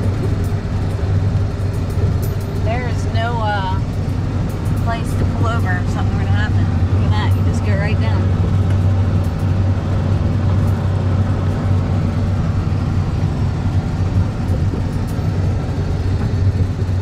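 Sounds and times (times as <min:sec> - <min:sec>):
engine low hum: 0:00.0 - 0:17.0
tyre and wind noise: 0:00.0 - 0:17.0.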